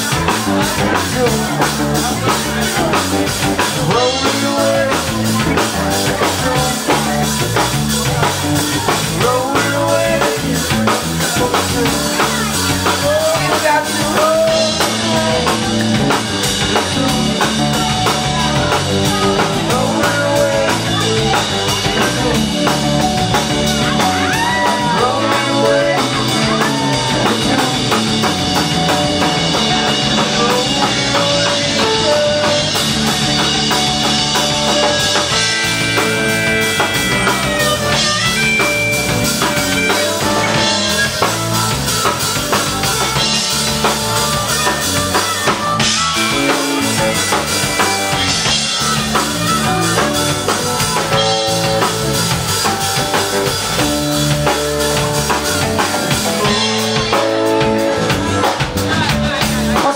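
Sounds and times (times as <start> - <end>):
drum kit beat: 0.0 - 59.9
live rock band playing: 0.0 - 59.9.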